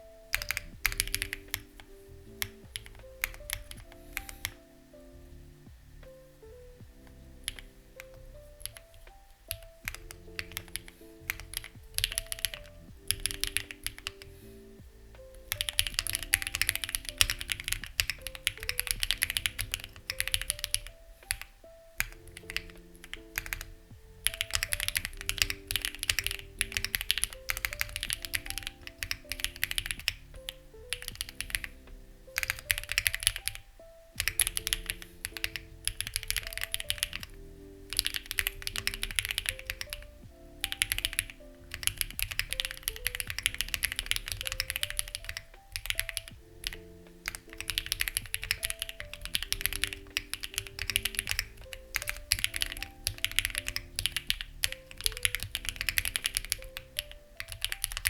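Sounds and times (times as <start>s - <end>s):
typing on mechanical keyboard: 0.0s - 4.6s, 7.0s - 14.3s, 15.3s - 31.8s, 32.4s - 58.0s
soft background music: 0.0s - 58.0s.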